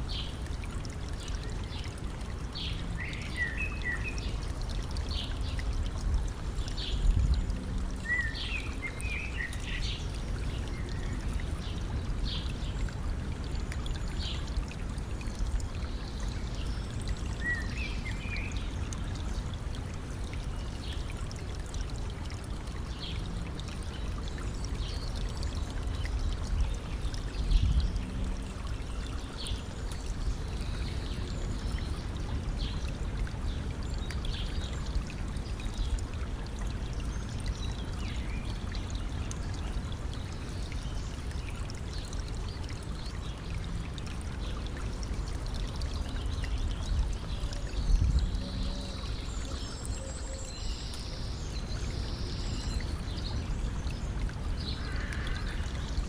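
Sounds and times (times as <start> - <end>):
stream trickling: 0.0 - 56.0.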